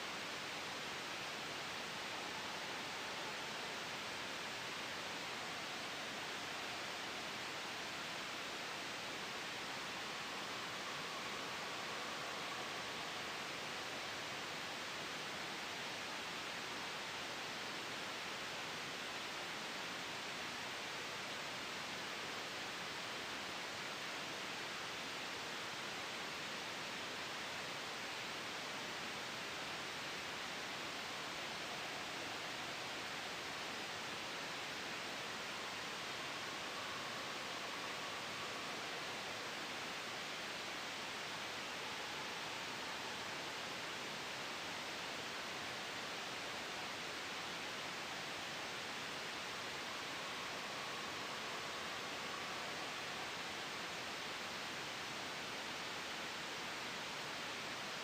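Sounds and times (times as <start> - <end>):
gentle wind: 0.0 - 58.0
soft white noise: 0.0 - 58.0.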